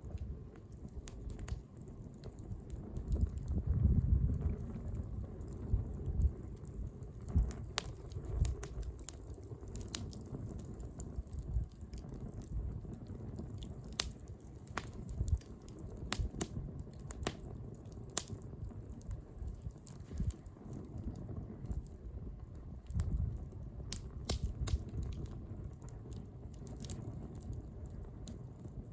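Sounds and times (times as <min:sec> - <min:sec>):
bonfire crackling and popping: 0:00.0 - 0:28.9
low fire rumble: 0:00.0 - 0:28.9.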